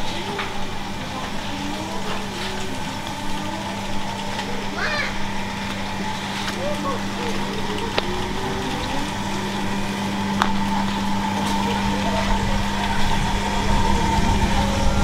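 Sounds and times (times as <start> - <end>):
low rumble: 0.0 - 15.0
motor hum: 0.0 - 15.0.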